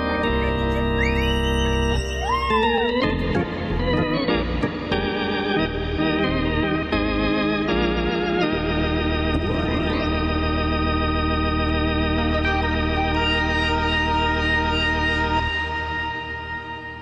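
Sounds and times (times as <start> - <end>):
organ-like keyboard chords: 0.0 - 17.0.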